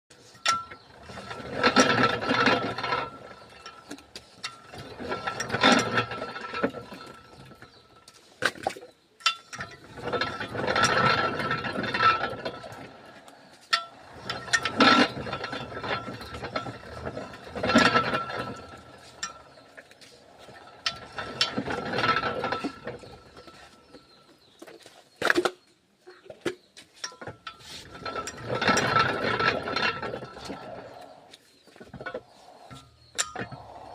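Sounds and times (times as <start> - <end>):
roller mill gears whining: 0.1 - 8.6, 9.2 - 24.9, 27.1 - 33.9
mill clanks and clicks: 0.2 - 24.5, 27.0 - 33.9.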